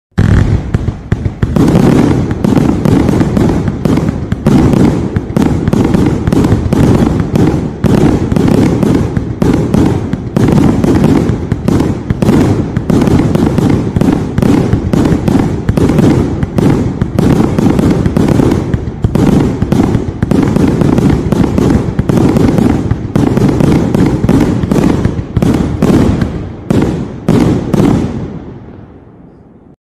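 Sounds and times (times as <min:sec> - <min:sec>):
firework cake shots: 0:00.1 - 0:28.2.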